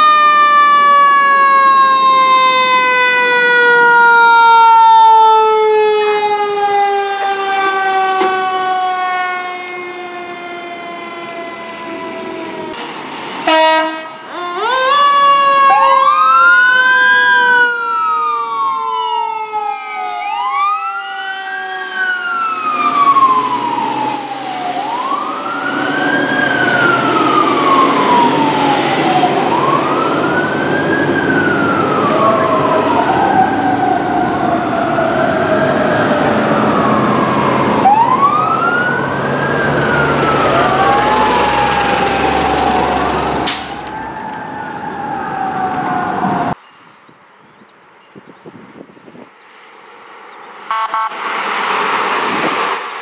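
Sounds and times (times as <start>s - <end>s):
electronic wail siren: 0.0s - 12.8s, 13.4s - 46.6s, 50.7s - 51.2s
loud siren blast: 0.0s - 12.8s, 13.4s - 46.6s, 50.7s - 52.7s
siren winding down: 0.0s - 12.8s, 14.3s - 46.6s
fire truck engine: 0.0s - 46.6s, 49.1s - 53.0s.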